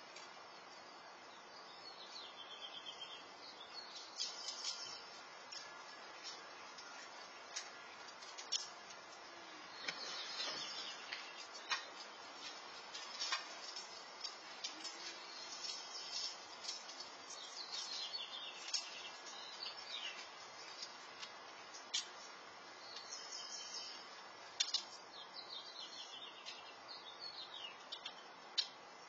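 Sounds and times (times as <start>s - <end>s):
small birds chirping: 0.0s - 29.0s
steady outdoor hiss: 0.0s - 29.0s.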